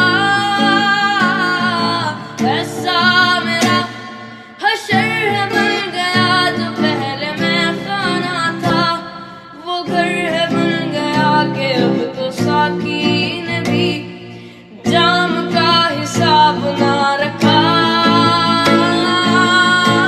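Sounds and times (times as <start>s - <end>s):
guitar accompaniment: 0.0s - 20.0s
person singing: 0.0s - 20.0s.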